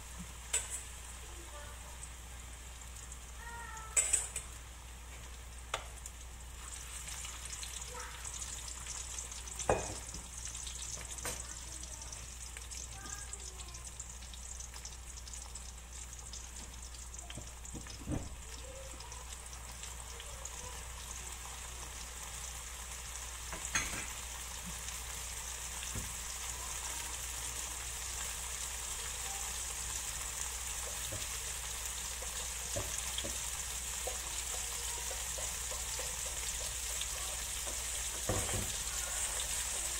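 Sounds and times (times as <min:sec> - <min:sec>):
tofu sizzling in oil: 0:00.0 - 0:39.9.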